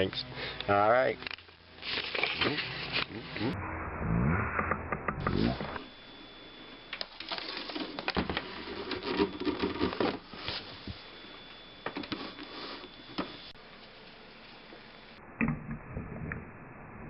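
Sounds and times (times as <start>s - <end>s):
faint high-pitched whine: 0.0s - 17.0s.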